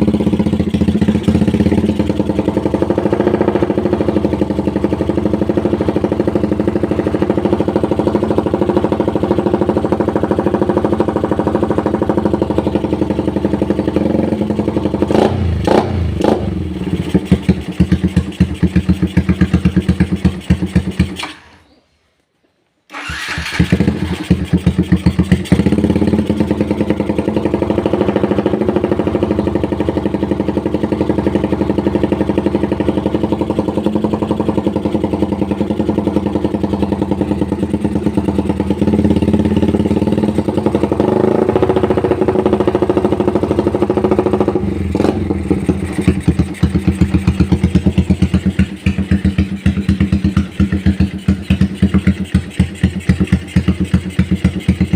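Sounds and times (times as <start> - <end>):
motorcycle loud exhaust revving: 0.0 - 21.2, 23.0 - 54.9.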